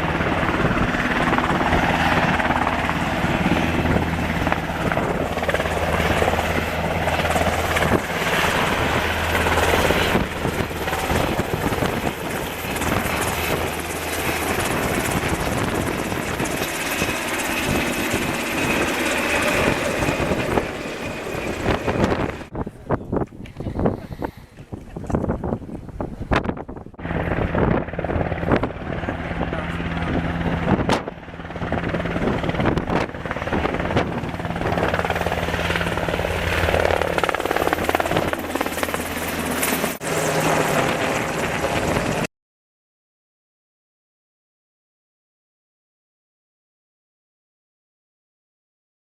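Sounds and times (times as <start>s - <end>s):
helicopter rotor and turbine noise: 0.0s - 42.3s.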